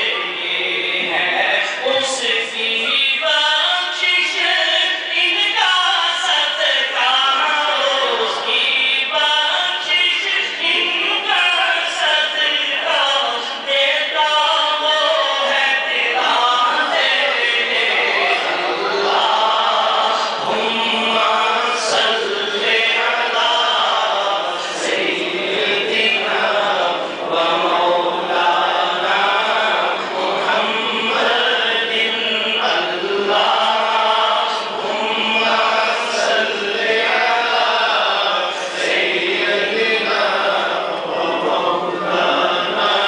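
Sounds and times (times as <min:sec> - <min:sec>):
man chanting into a microphone: 0:00.0 - 0:43.0.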